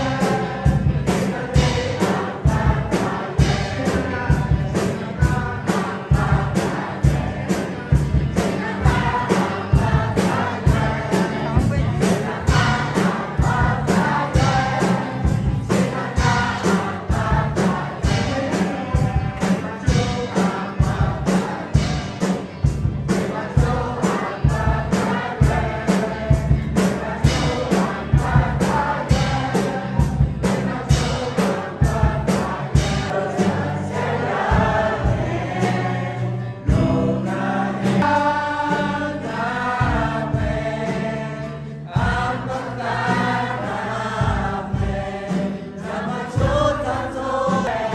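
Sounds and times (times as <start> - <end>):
accompaniment with steady beat: 0.0 - 47.9
group singing a hymn: 0.0 - 47.9.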